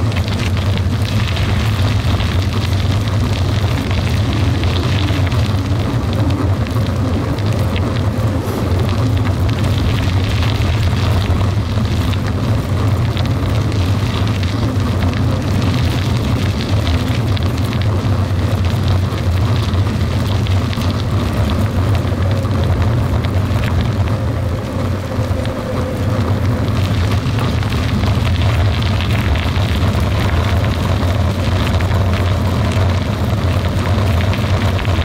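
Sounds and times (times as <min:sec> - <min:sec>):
tyres rumbling on gravel: 0:00.0 - 0:35.0
wind on microphone: 0:00.0 - 0:35.0.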